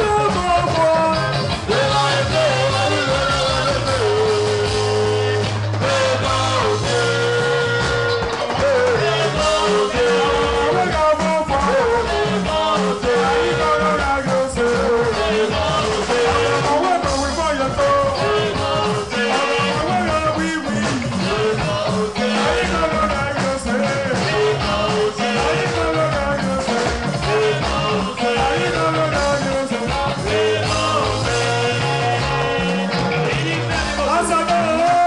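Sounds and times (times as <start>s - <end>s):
dance music with singing: 0.0s - 35.0s.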